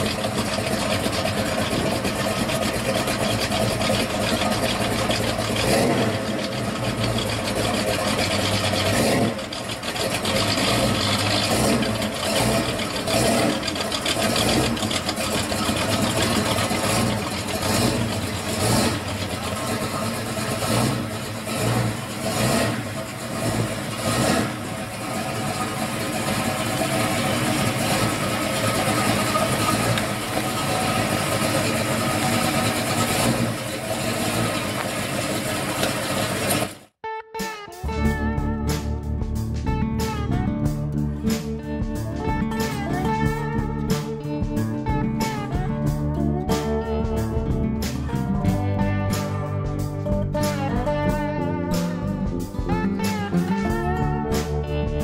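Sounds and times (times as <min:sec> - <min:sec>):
car engine running and revving: 0:00.0 - 0:37.0, 0:38.0 - 0:55.0.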